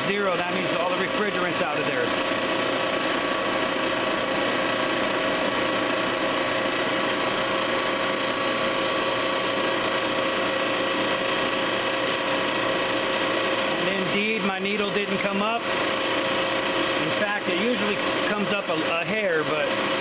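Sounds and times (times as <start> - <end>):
recovery machine running: 0.0 - 20.0.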